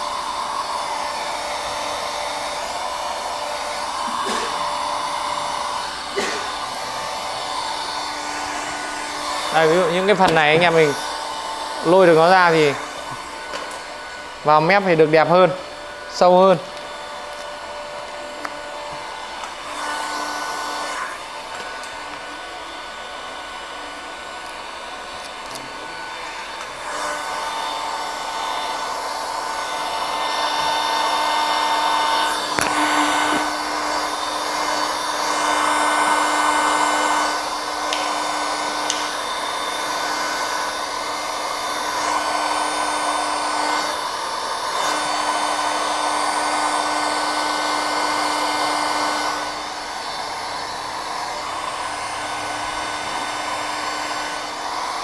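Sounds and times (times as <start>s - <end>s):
heat gun blowing: 0.0s - 55.0s.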